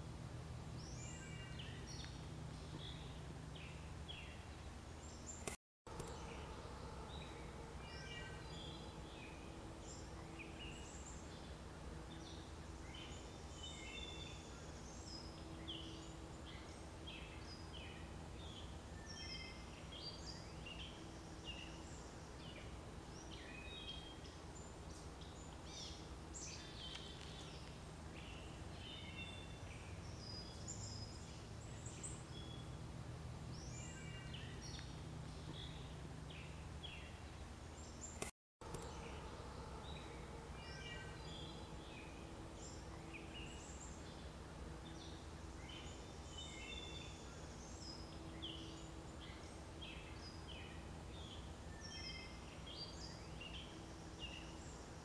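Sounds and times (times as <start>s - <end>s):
faint birdsong: 0.0s - 55.0s
steady low hum: 0.0s - 55.0s.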